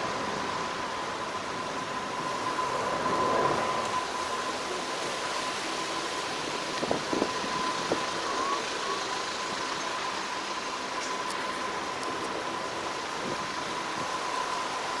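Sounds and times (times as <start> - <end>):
constant thin tone: 0.0 - 15.0.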